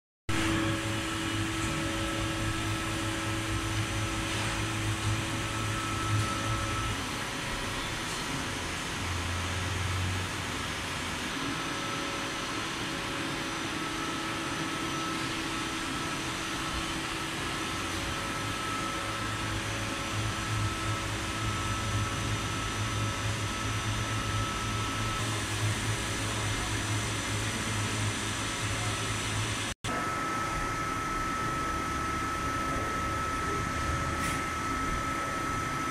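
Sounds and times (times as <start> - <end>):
faint steady whine: 0.3 - 8.2, 11.4 - 35.9
lathe hum and hiss: 0.4 - 35.9.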